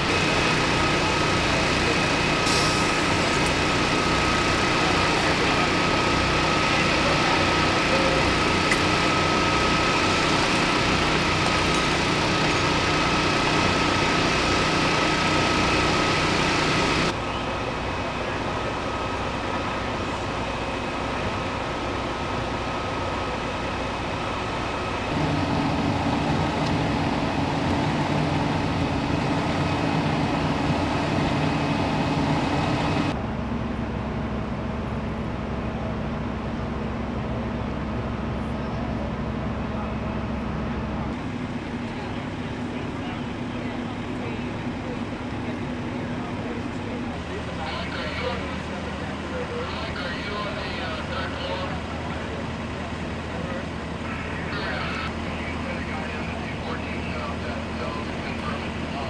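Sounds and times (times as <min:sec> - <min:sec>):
diesel engines idling: 0:00.0 - 0:59.0
thin steady whine: 0:00.0 - 0:59.0.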